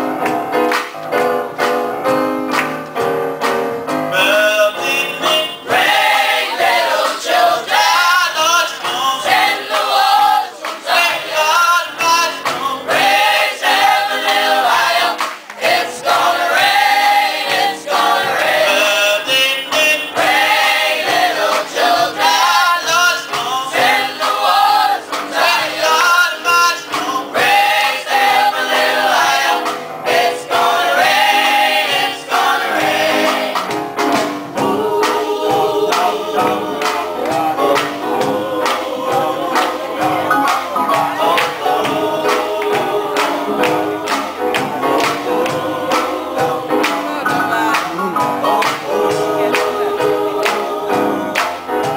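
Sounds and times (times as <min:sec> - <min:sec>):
boys' choir singing: 0:04.1 - 0:51.9.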